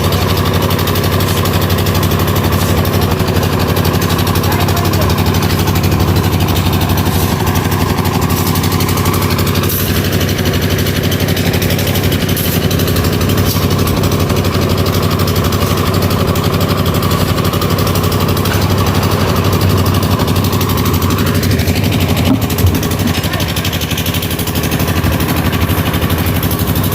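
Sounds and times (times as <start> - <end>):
engine droning hum: 0.0 - 26.9.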